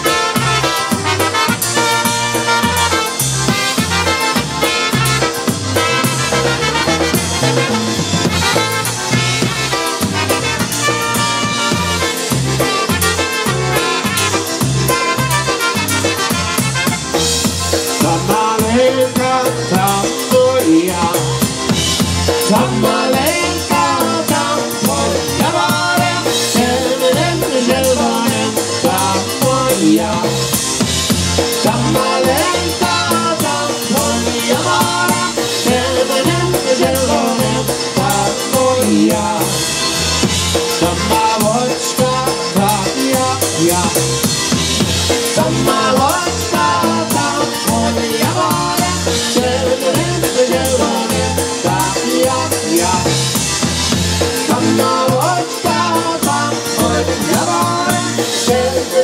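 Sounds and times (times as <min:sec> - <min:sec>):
accordion: 0:00.0 - 0:59.0
drum kit: 0:00.0 - 0:59.0
electric bass: 0:00.0 - 0:59.0.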